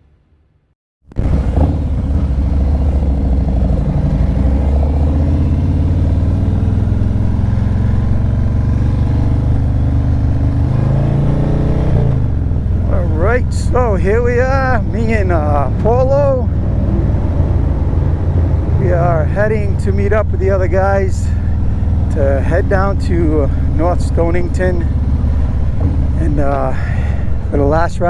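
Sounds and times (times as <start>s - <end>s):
motorcycle engine running: 1.1s - 28.0s.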